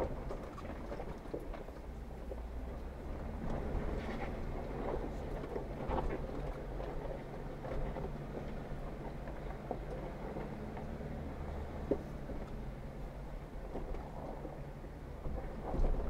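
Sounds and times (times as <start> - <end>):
car engine running at low revs: 0.0 - 16.0
knocks and rattles from tyres and body: 0.0 - 16.0.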